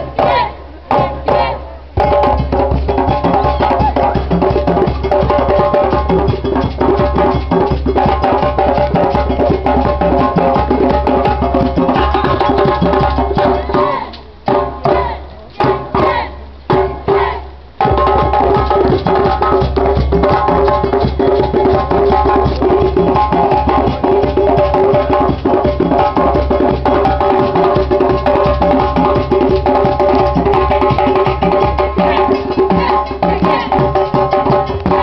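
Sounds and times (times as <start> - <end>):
fast dense drumming: 0.1 - 35.0.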